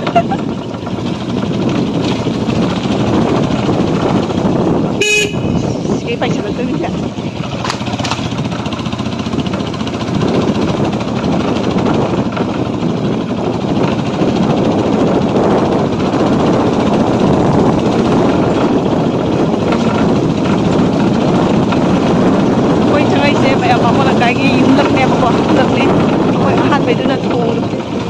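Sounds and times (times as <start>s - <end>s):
small vehicle engine running: 0.0s - 28.0s.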